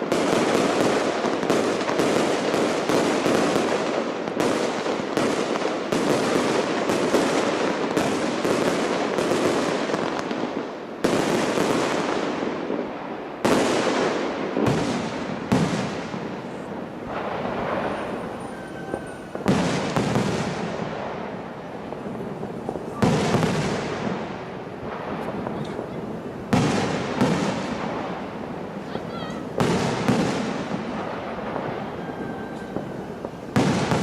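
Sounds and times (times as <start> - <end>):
fireworks bursts and crackle: 0.0 - 34.0
loud firework bangs rumbling: 0.0 - 34.0.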